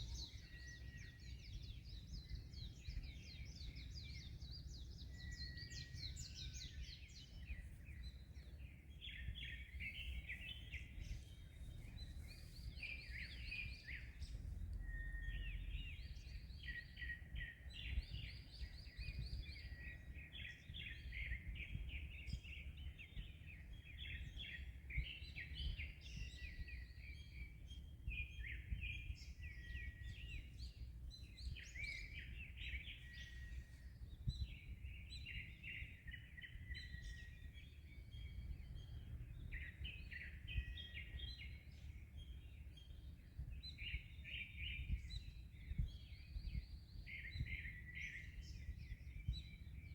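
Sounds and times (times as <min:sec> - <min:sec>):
small birds chirping and twittering: 0:00.0 - 0:49.9
wind: 0:00.0 - 0:49.9.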